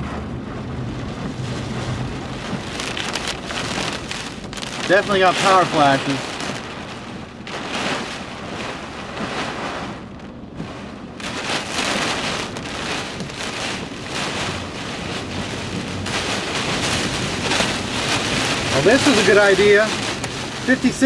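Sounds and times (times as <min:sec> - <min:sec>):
gusting wind: 0:00.0 - 0:21.0
heavy rain: 0:00.0 - 0:21.0.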